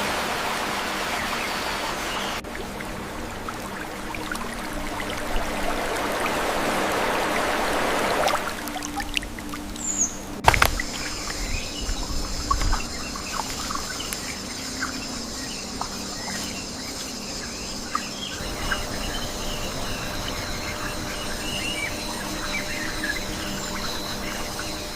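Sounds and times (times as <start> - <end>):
rushing water: 0.0 - 24.9
steady high-pitched hum: 0.0 - 24.9.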